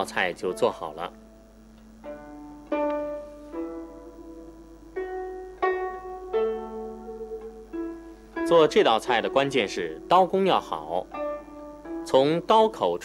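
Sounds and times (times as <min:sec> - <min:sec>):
plucked string slow melody: 0:00.0 - 0:13.0.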